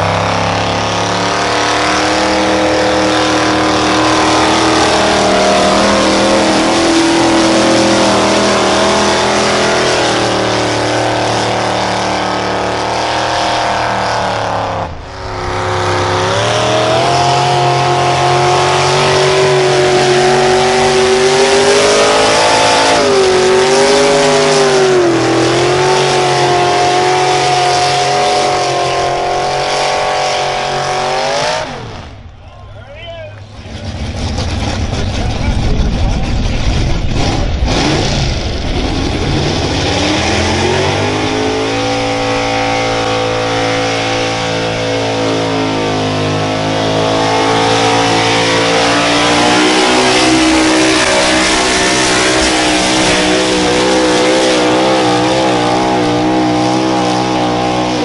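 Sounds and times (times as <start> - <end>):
engine revving under load: 0.0 - 32.4, 33.4 - 58.0.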